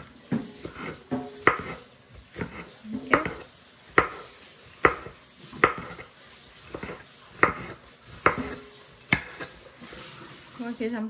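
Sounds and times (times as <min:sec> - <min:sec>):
knife chopping on board: 0:00.0 - 0:09.6.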